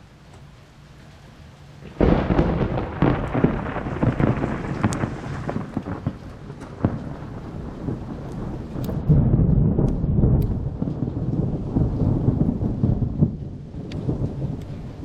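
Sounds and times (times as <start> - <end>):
rain hiss: 0.0 - 15.0
thunder crack and rumble: 1.8 - 15.0.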